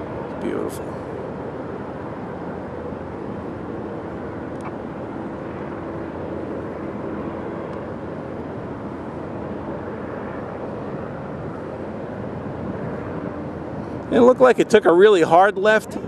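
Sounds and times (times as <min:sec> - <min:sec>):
distant aircraft rumble: 0:00.0 - 0:16.0.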